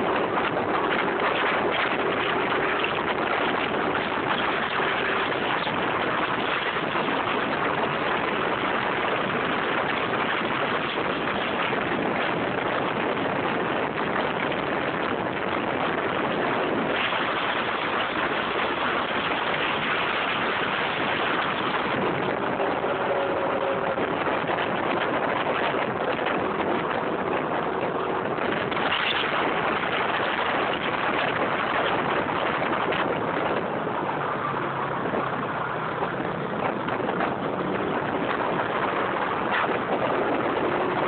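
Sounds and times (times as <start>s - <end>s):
wind rushing on microphone: 0.0s - 41.0s.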